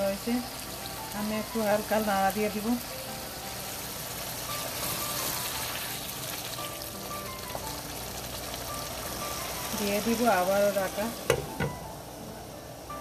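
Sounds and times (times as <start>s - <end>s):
leaves sizzling in a pan: 0.0s - 13.0s
soft background music: 0.0s - 13.0s.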